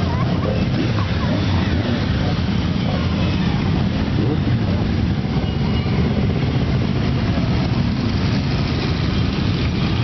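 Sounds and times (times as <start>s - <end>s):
motorcycle engines rumbling past: 0.0s - 10.0s.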